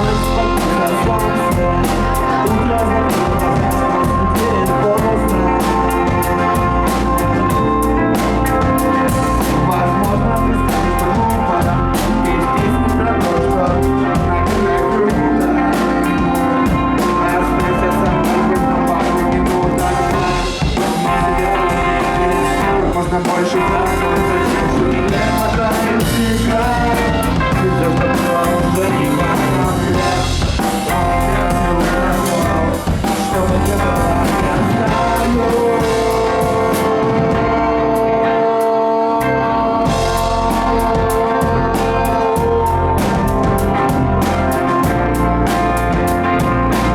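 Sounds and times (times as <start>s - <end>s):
drum kit: 0.0s - 38.8s, 39.6s - 46.9s
rock band playing live: 0.0s - 46.9s.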